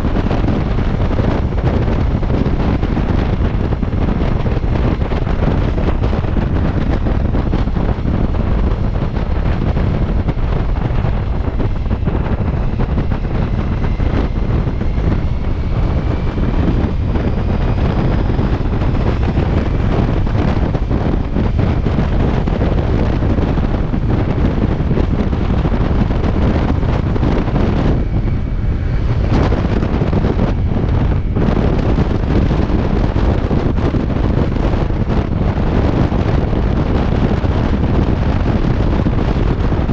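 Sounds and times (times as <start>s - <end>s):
motorcycle engine tone rising: 0.0s - 39.8s
wind rumble on microphone: 0.0s - 39.9s.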